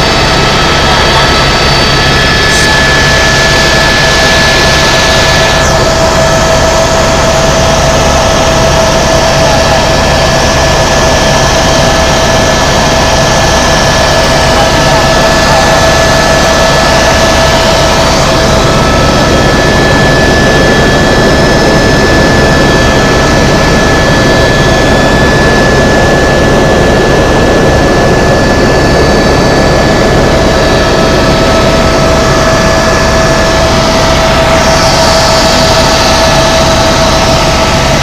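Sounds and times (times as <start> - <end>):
helicopter turbine and rotor noise: 0.0 - 38.0.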